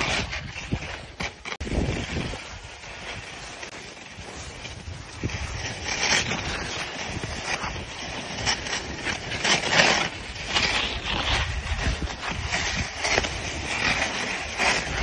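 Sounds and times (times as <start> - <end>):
wind buffeting microphone: 0.0 - 9.4, 10.0 - 15.0
skis scraping over packed snow: 0.0 - 15.0.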